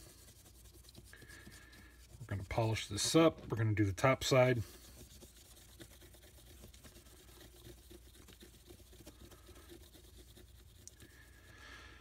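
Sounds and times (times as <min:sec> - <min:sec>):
paper towel rubbing metal: 0:00.0 - 0:11.6.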